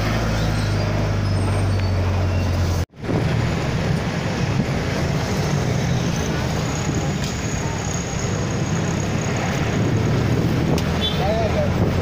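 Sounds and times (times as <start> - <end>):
vehicle engine with road noise: 0.0 - 12.0.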